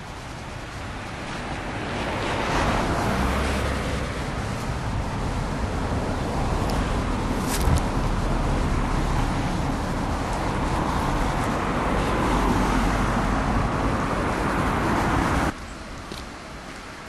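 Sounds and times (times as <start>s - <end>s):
cars passing on a road: 0.0s - 17.0s.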